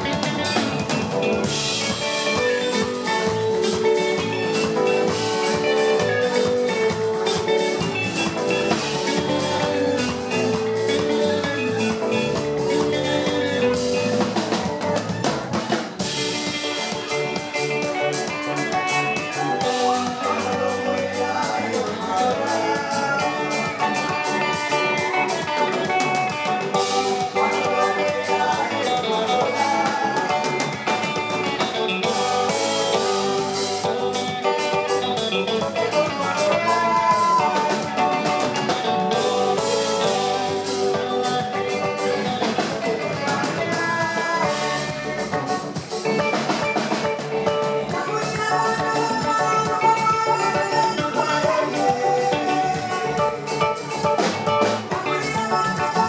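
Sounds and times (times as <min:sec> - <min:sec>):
drum kit groove: 0:00.0 - 0:56.0
guitar: 0:00.0 - 0:56.0.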